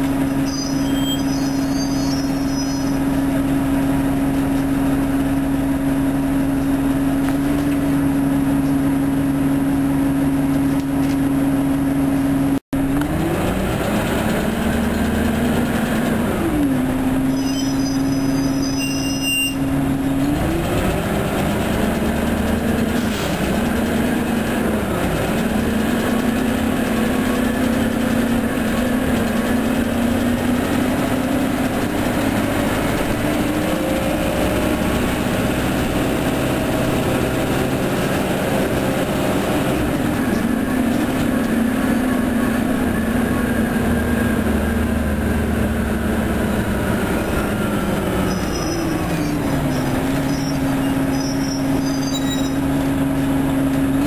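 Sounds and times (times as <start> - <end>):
bus engine whine: 0.0 - 54.0.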